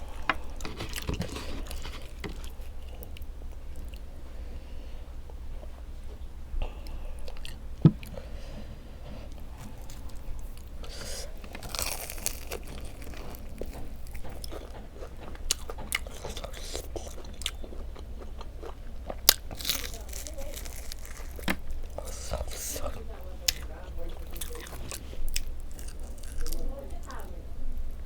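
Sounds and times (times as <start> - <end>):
person chewing and crunching: 0.0 - 4.1, 5.3 - 8.3, 9.3 - 27.3.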